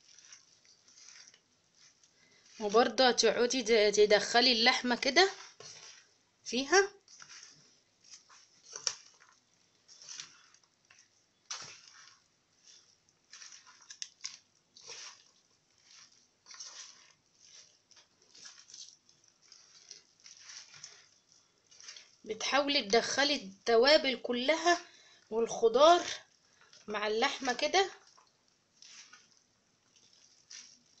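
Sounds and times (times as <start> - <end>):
hands squishing raw meat: 0.0 - 31.0.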